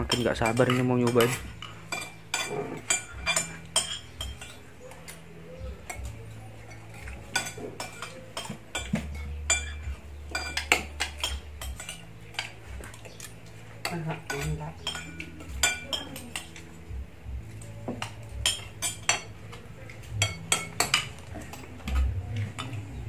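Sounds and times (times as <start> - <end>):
spoons clinking on plates: 0.0 - 16.8, 17.5 - 23.0.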